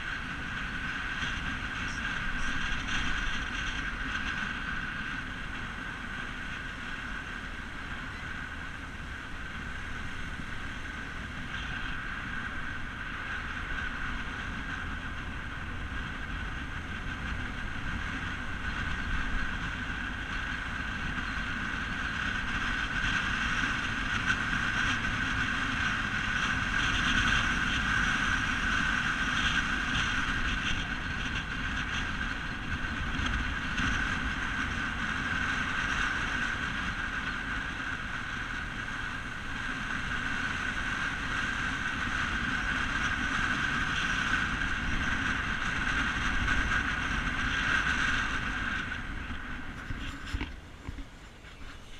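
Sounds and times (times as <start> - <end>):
car driving on road: 0.0 - 51.9.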